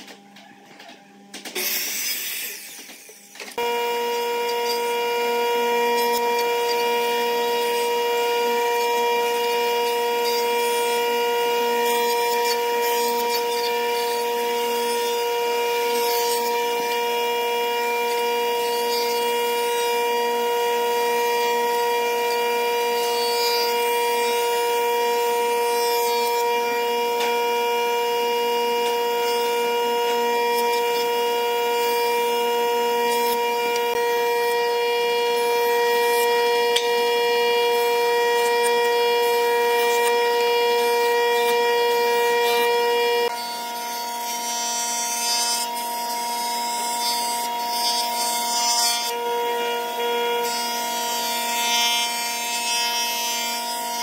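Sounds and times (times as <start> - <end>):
jointer cutterhead whine: 0.0 - 54.0.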